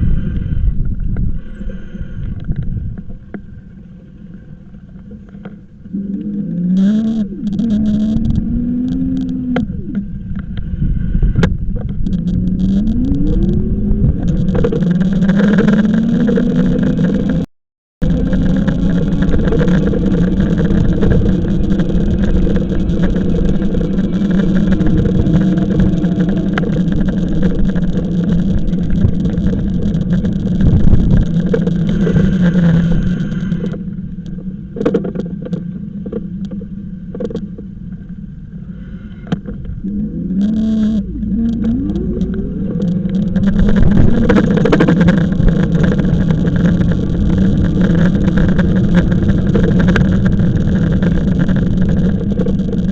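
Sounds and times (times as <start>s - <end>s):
e-bike motor whine: 0.0s - 52.9s
wind and road noise: 0.0s - 52.9s
clicks: 4.8s - 10.7s, 11.3s - 38.0s, 39.2s - 52.9s.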